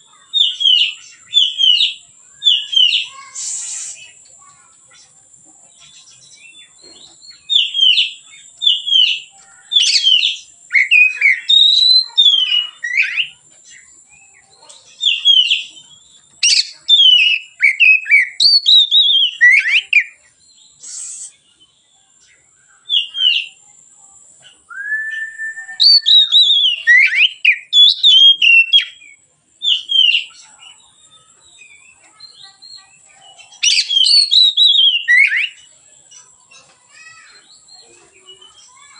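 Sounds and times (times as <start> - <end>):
magpie-robin whistled song: 0.1 - 4.2, 5.8 - 21.7, 22.7 - 23.6, 24.4 - 38.9.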